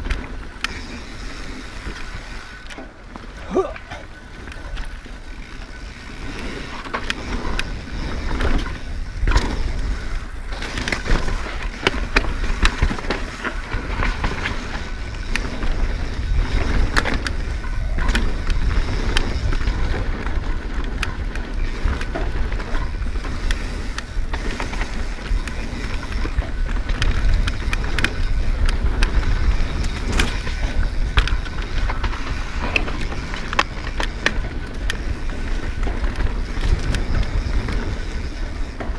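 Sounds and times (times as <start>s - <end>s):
bike clacking and rattling: 0.0s - 38.9s.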